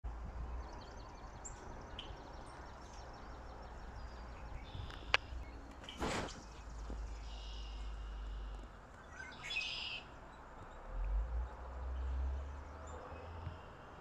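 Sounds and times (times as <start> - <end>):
songbirds chirping: 0.1 - 14.0.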